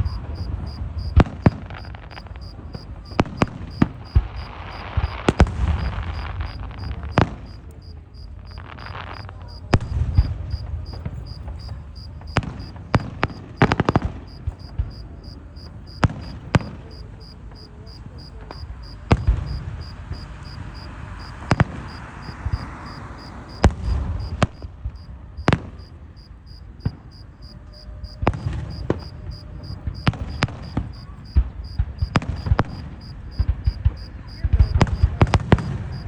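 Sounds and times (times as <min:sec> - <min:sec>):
cricket chirping: 0:00.0 - 0:36.0
fireworks bangs: 0:00.0 - 0:36.0.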